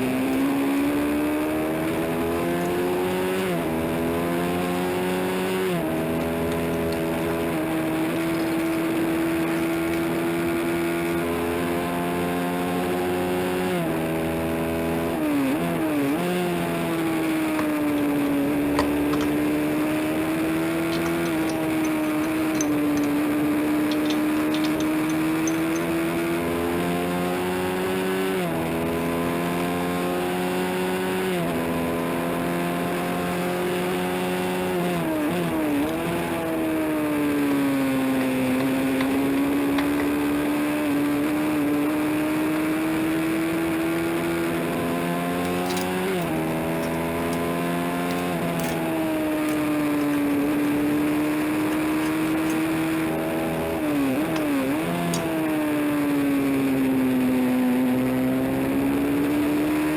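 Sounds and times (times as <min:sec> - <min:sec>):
motorcycle race engine shifting gears: 0:00.0 - 0:59.9.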